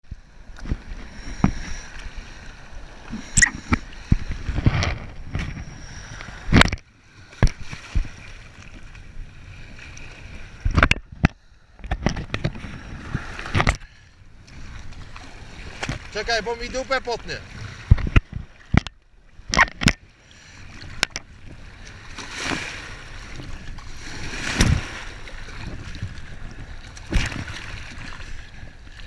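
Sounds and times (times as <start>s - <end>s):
water sloshing and splashing: 0.1s - 29.0s.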